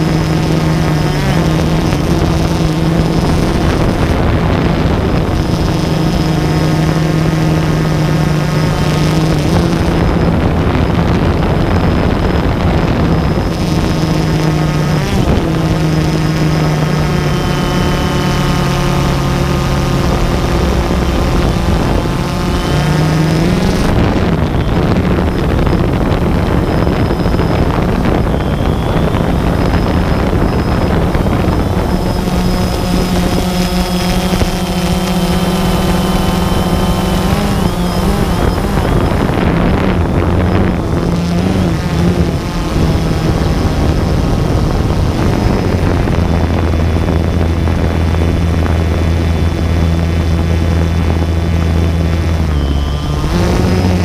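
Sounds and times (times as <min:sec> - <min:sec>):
drone motors whining: 0:00.0 - 0:54.0
wind on microphone: 0:00.0 - 0:54.0.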